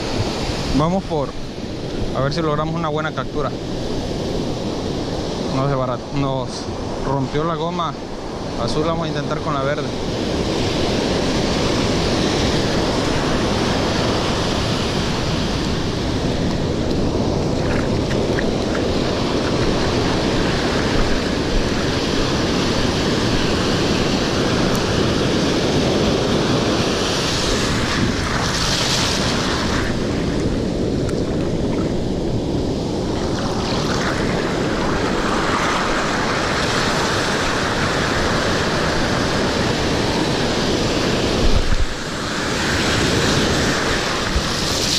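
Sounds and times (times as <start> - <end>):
ocean surf breaking: 0.0 - 44.9
wind rumbling on microphone: 0.0 - 44.9.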